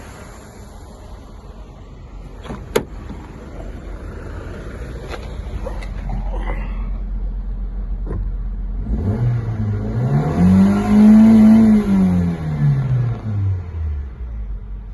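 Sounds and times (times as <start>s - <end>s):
car engine idling and revving: 0.0s - 14.9s.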